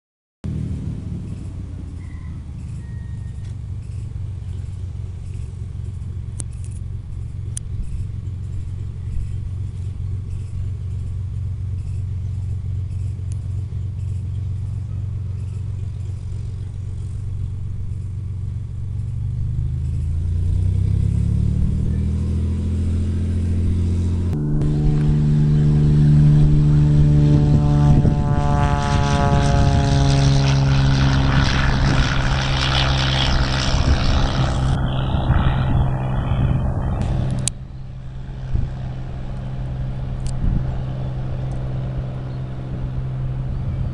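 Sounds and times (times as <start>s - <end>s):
propeller plane engine: 0.4s - 43.9s.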